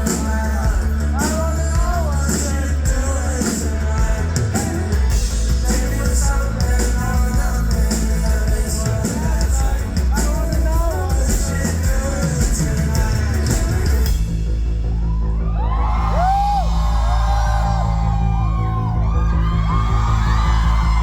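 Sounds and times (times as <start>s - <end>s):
drums and cymbals: 0.0s - 21.0s
rock band playing: 0.0s - 21.0s
steady low bass: 0.0s - 21.0s.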